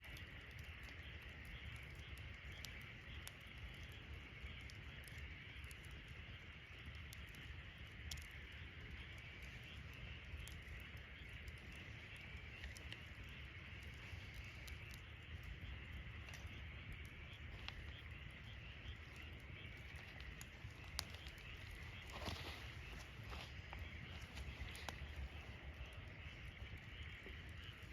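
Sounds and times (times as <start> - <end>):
campfire crackling pops: 0.0 - 27.9
fire hiss and low rumble: 0.0 - 27.9.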